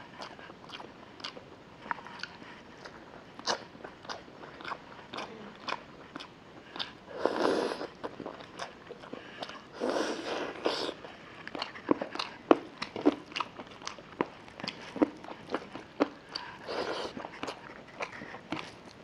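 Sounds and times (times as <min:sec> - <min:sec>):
person biting and chewing meat: 0:00.2 - 0:07.0, 0:07.7 - 0:19.0.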